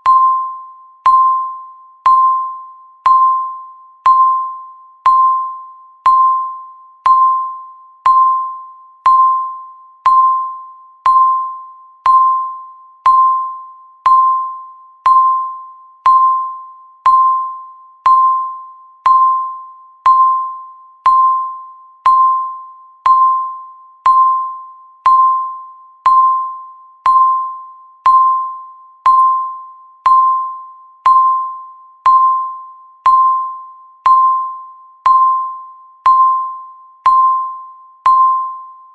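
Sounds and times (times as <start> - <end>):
timer ticking with ringing tone: 0.0 - 38.9.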